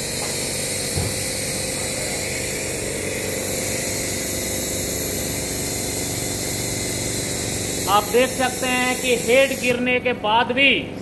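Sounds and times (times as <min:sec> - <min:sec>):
machine hiss: 0:00.0 - 0:09.9
low machine hum: 0:00.0 - 0:11.0.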